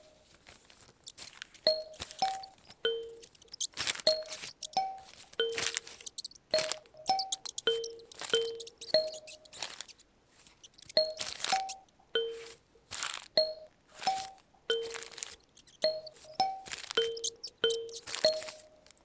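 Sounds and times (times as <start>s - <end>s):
paper rustling: 0.0s - 19.0s.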